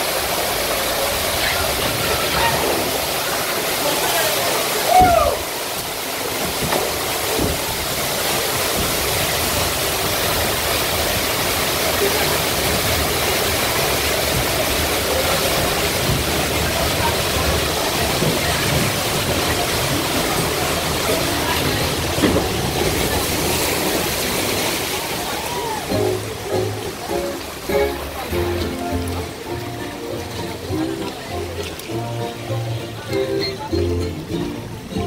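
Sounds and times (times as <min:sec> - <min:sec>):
water rushing and splashing: 0:00.0 - 0:35.0.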